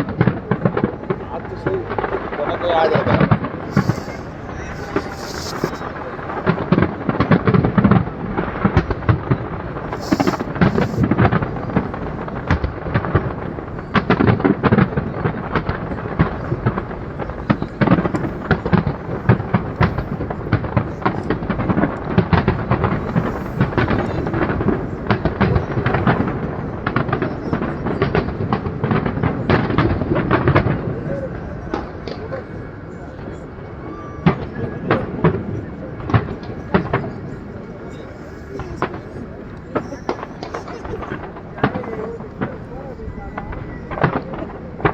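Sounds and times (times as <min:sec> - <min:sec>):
fireworks booming and crackling: 0:00.0 - 0:44.9.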